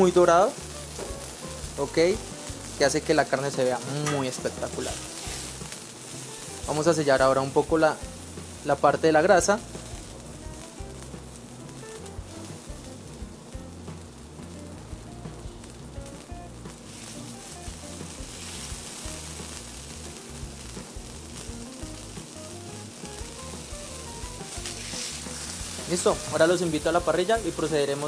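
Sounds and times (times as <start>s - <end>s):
steak fat sizzling on griddle: 0.0s - 28.0s.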